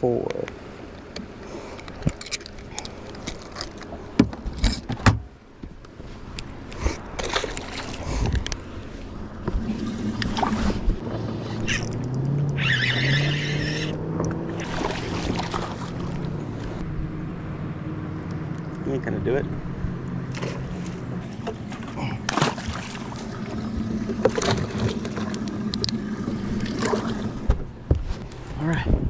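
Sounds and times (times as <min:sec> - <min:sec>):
boat motor humming: 0:05.2 - 0:28.6.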